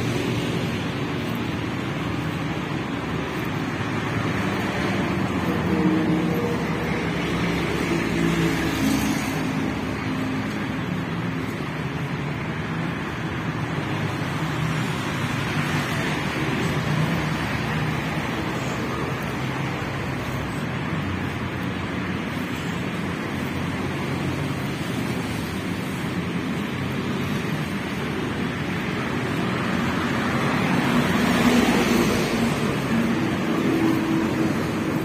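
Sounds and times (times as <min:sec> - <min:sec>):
road noise from passing cars: 0:00.0 - 0:35.0.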